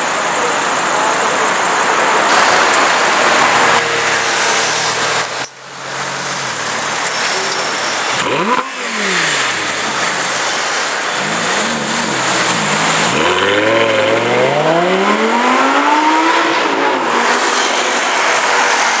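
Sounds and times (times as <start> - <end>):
car engine revving: 0.0 - 19.0
street noise: 0.0 - 19.0.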